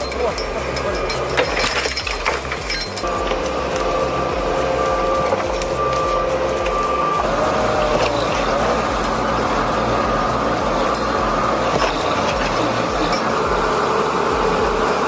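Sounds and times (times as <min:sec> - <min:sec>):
diesel engine rumble: 0:00.0 - 0:15.0
high whine: 0:00.0 - 0:15.0.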